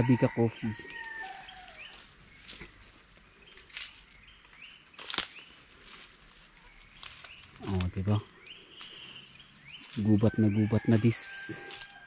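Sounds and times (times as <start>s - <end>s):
footsteps on dry leaves: 0.0s - 12.0s.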